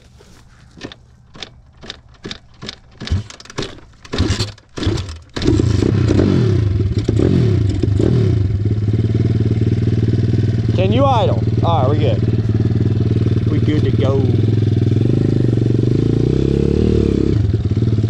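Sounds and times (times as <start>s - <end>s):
motorbike engine cranking and sputtering: 0.0s - 18.0s
motorbike engine revving: 1.4s - 18.0s.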